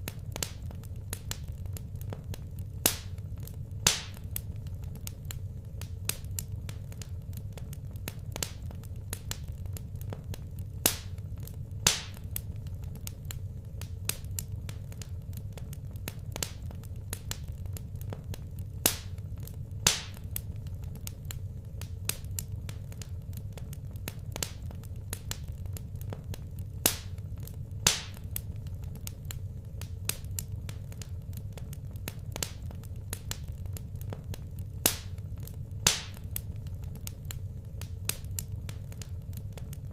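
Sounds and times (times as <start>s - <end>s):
sharp pops of fire: 0.0s - 39.9s
wood fire crackling: 0.0s - 39.9s.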